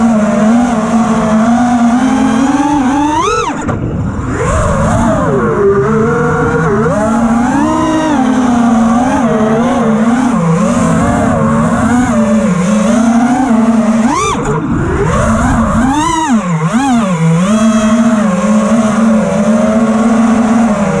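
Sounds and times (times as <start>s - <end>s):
drone motors buzzing whine: 0.0s - 21.0s.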